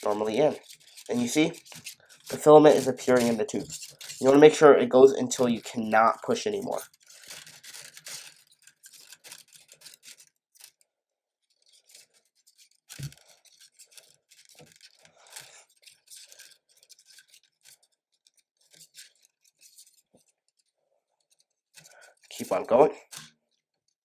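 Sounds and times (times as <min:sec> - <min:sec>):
plastic filament scratching in tube: 0:00.0 - 0:10.8, 0:11.5 - 0:23.3.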